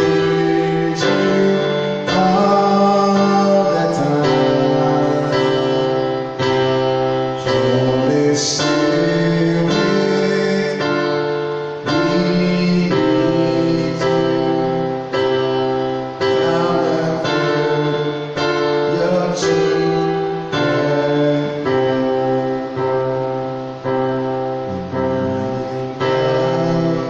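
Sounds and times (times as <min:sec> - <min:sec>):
keyboard playing sustained chords: 0:00.0 - 0:27.0.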